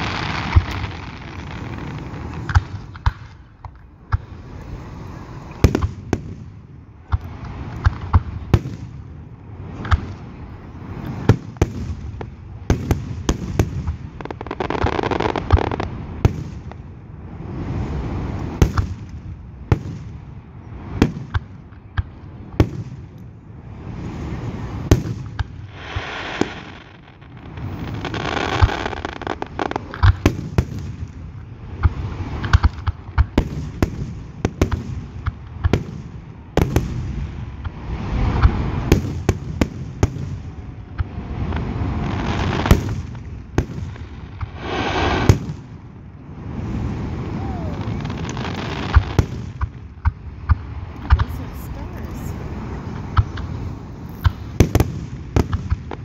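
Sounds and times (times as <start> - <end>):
crackling rushing noise: 0.0 - 56.0
fireworks bursting with bangs: 0.0 - 56.0.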